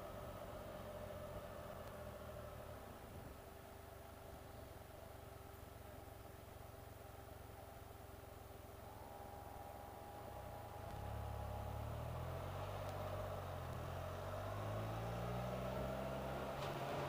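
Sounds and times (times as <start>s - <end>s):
motor trike engine running: 0.0s - 14.6s.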